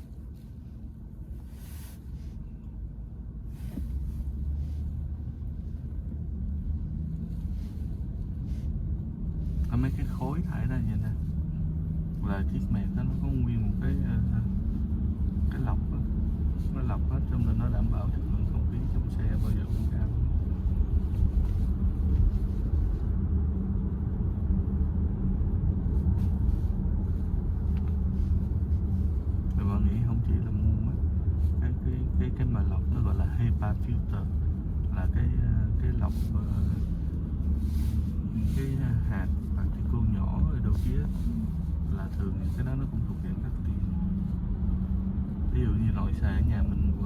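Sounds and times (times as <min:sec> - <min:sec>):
road and tyre rumble in car: 0:00.0 - 0:47.0.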